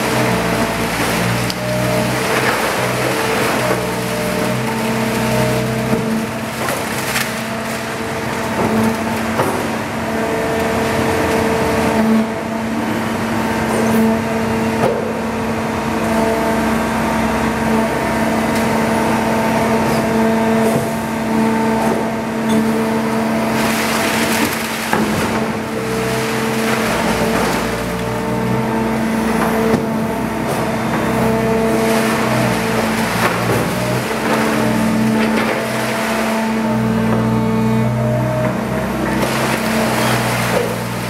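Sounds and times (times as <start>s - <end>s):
hydraulic baler hum: 0.0s - 41.0s.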